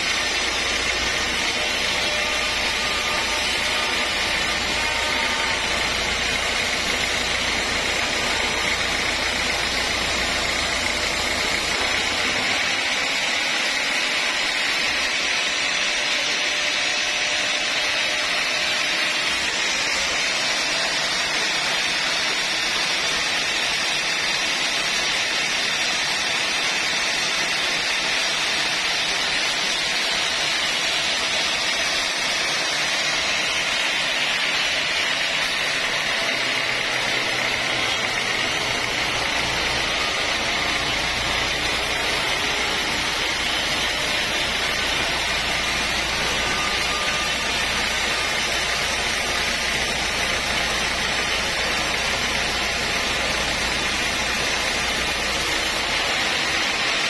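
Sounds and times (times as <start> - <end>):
band saw blade cutting wood: 0.0 - 57.0.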